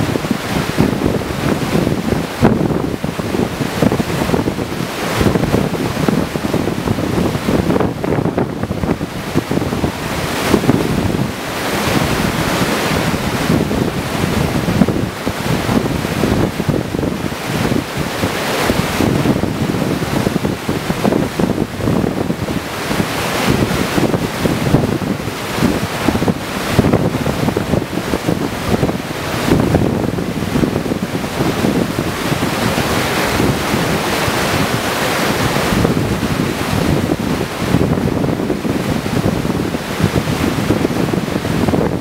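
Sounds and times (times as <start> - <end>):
river whitewater rushing: 0.0 - 42.0
wind buffeting microphone: 0.0 - 42.0.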